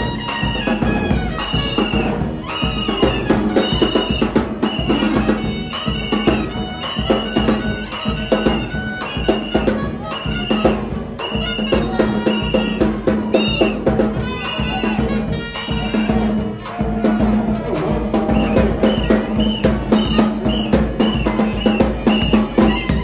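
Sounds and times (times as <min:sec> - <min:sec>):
brass band playing: 0:00.0 - 0:23.0
sousaphone bass: 0:00.0 - 0:23.0.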